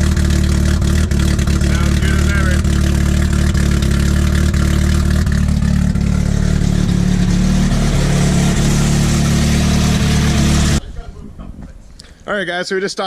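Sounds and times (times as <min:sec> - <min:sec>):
car engine running loud: 0:00.0 - 0:10.8.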